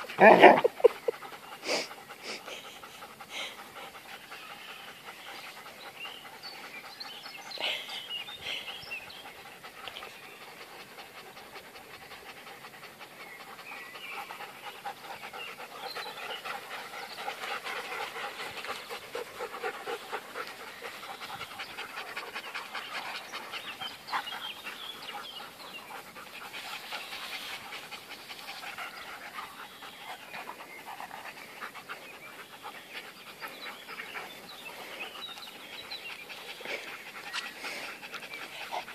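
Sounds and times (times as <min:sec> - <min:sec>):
dogs panting fast: 0:00.0 - 0:38.9.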